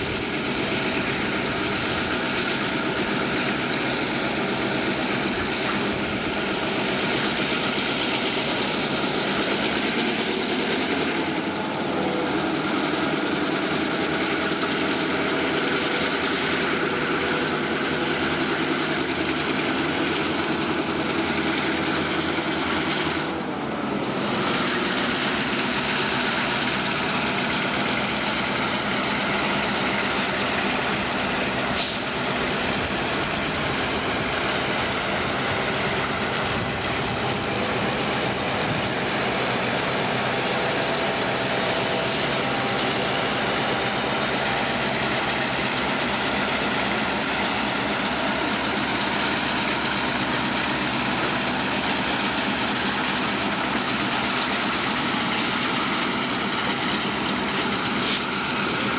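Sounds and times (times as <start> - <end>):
diesel locomotive engine drone: 0.0 - 58.9
train rumble: 0.0 - 58.9.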